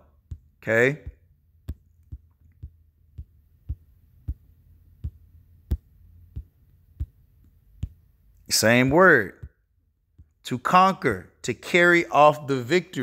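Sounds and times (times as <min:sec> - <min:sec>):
taps on touchscreen: 0:00.0 - 0:10.4
faint low hum: 0:00.0 - 0:10.7.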